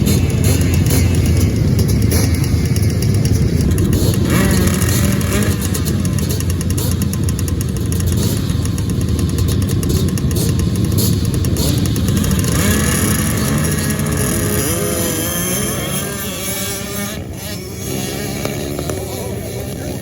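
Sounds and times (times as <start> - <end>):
racing engines revving: 0.0 - 20.0.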